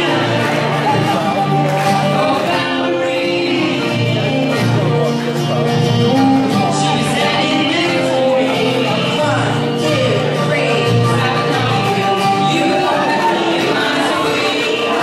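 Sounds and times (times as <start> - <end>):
acoustic guitar: 0.0 - 15.0
people singing through microphones: 0.0 - 15.0.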